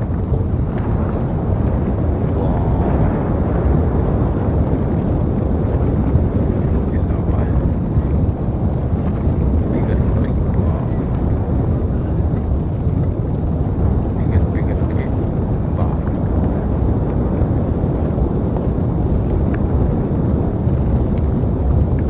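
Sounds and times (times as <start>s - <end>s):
lava vent rumbling: 0.0s - 22.0s.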